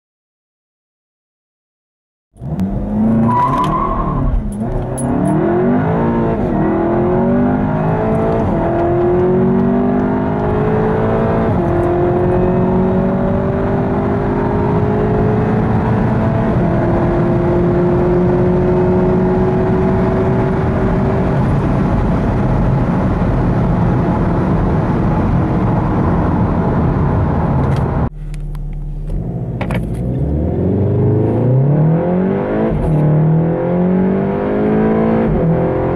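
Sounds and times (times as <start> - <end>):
car engine accelerating: 2.4 - 35.9.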